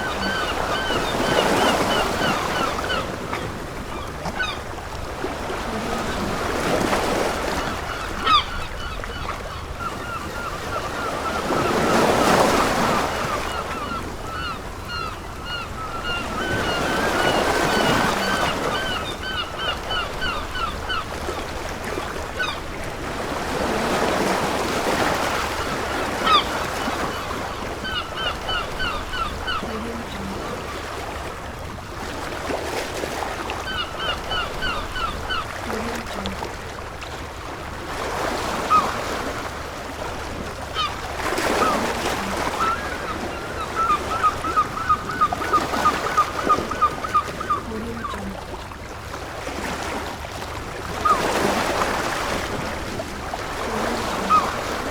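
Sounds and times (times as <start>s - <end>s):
seagulls calling: 0.0s - 31.5s, 33.1s - 36.6s, 38.2s - 48.7s, 50.8s - 54.9s
waves breaking on beach: 0.0s - 54.9s.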